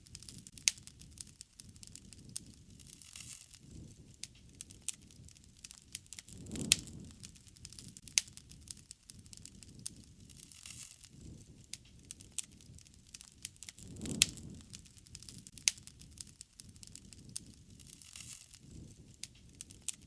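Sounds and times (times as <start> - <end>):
low rushing of flame: 0.0 - 20.0
wood fire crackling and popping: 0.0 - 20.0.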